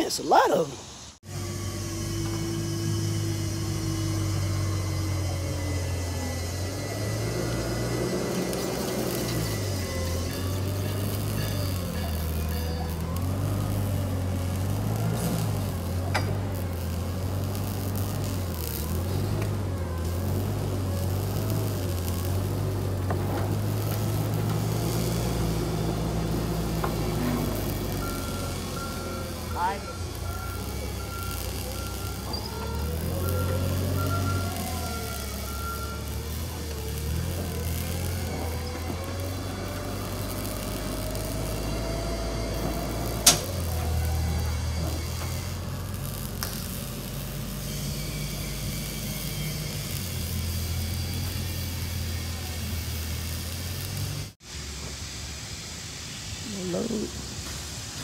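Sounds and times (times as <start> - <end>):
truck engine humming: 0.0 - 54.4.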